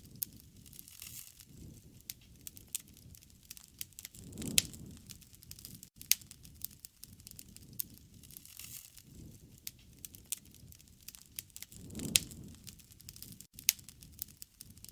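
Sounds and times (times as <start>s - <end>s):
wood fire crackling and popping: 0.0s - 14.9s
low flame noise: 1.4s - 14.9s.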